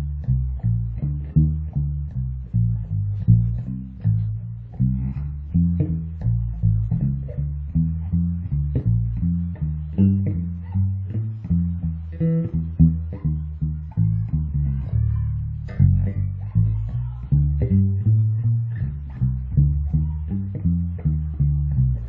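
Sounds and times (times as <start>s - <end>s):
electric bass plucked notes: 0.0s - 22.0s.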